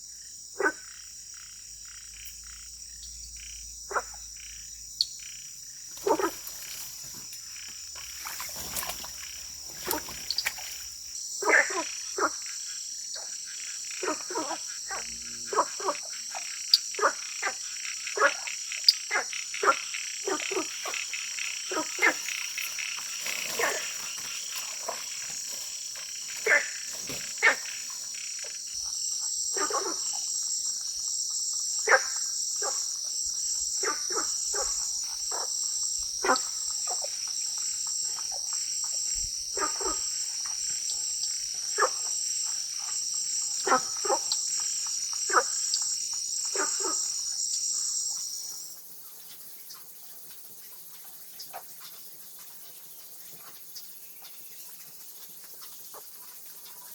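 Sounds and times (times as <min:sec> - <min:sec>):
frog calls: 0:00.0 - 0:49.8
crickets chirping: 0:00.0 - 0:56.9.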